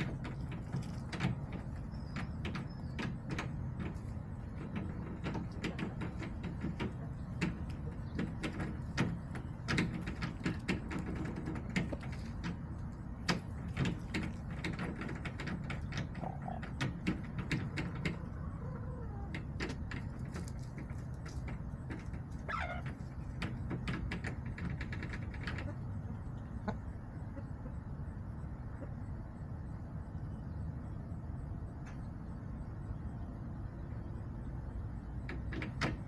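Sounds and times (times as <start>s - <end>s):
chickens pecking and scratching: 0.0s - 29.1s
hens clucking: 0.0s - 29.4s
low background rumble: 0.0s - 36.0s.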